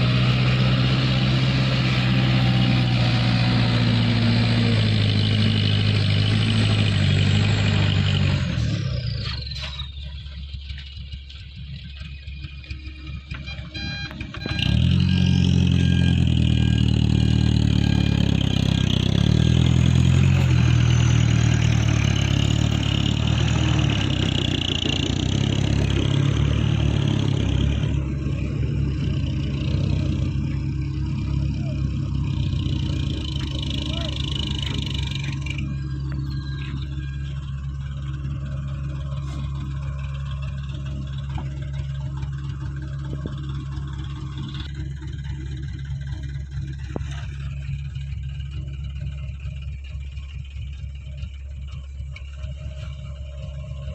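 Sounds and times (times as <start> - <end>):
truck engine starting and running: 0.0 - 53.9
high whine: 6.0 - 53.9.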